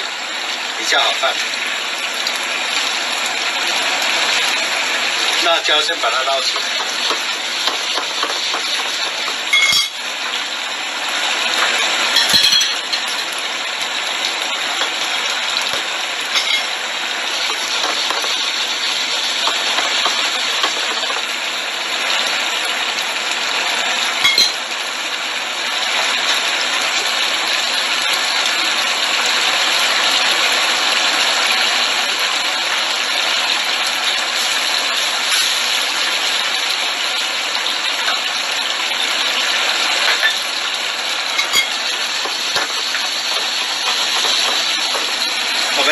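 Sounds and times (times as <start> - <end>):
sauce bubbling and sizzling in pan: 0.0 - 45.9.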